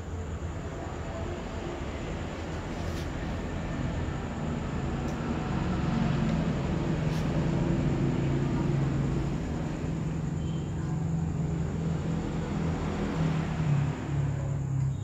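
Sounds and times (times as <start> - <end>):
noisy hiss: 0.0 - 14.6
low mechanical drone: 0.0 - 15.0.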